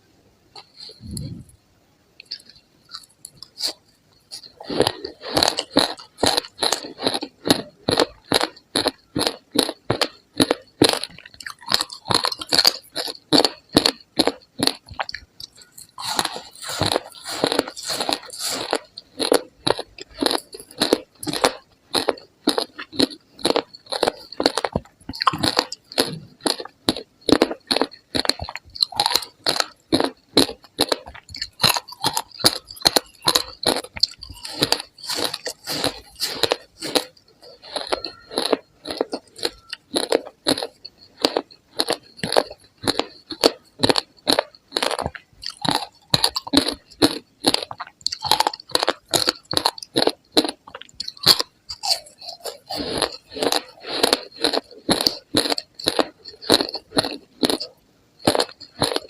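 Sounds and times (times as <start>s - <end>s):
ice being chewed: 0.6s - 1.6s, 2.2s - 59.0s.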